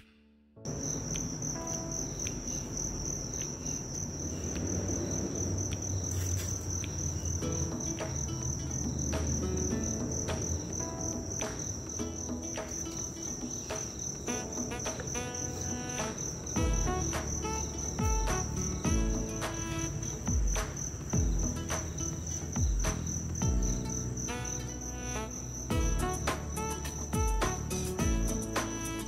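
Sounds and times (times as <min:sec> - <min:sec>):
crickets chirping chorus: 0:00.7 - 0:29.0.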